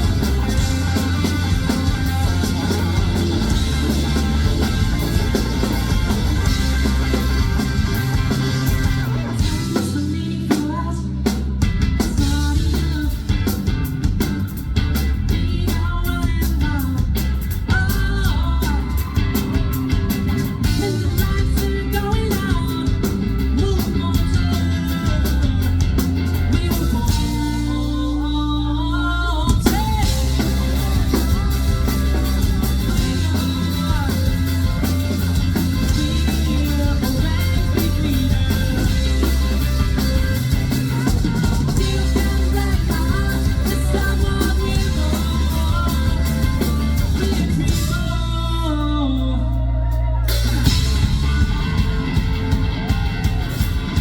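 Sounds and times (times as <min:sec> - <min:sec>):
person singing: 0:00.0 - 0:11.5, 0:15.3 - 0:54.0
rock band playing live: 0:00.0 - 0:54.0.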